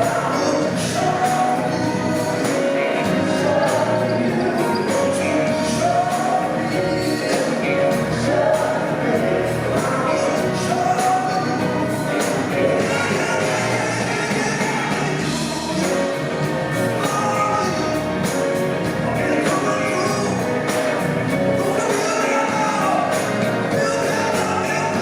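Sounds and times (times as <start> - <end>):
live rock band playing: 0.0 - 25.0
person singing: 0.0 - 25.0
steady drum beat: 0.0 - 25.0.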